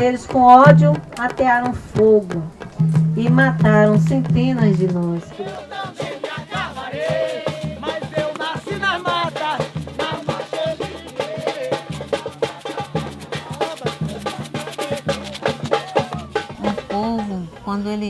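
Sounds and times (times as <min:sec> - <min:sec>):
samba drums and percussion: 0:00.0 - 0:17.7.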